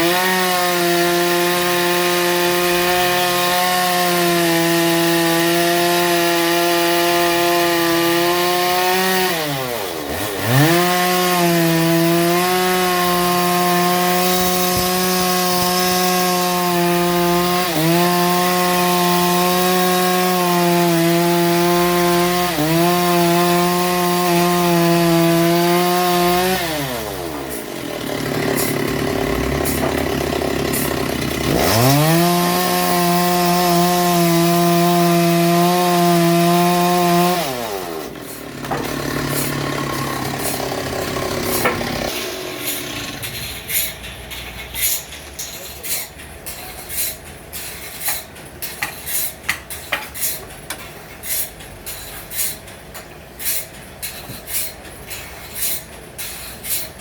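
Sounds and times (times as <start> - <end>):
sawmill saw running: 0.0 - 50.5.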